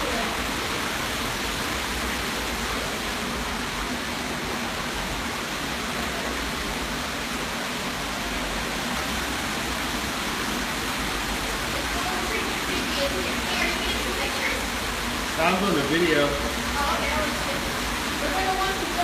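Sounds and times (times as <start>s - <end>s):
water rushing through tunnel: 0.0s - 19.0s.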